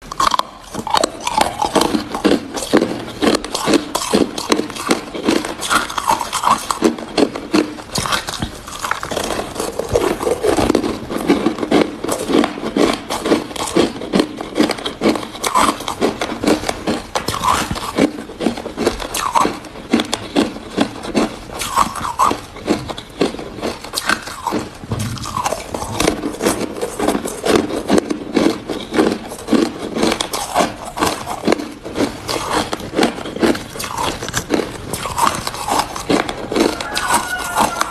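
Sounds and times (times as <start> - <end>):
ice being chewed: 0.0 - 37.9.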